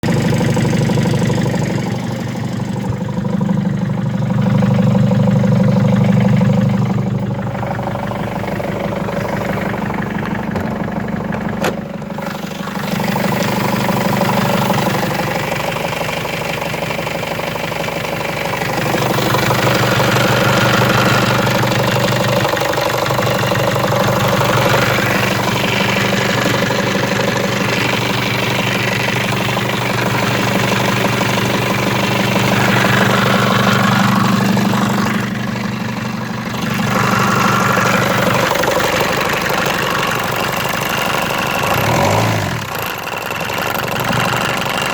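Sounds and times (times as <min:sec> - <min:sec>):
diesel engine running with knock: 0:00.0 - 0:44.9.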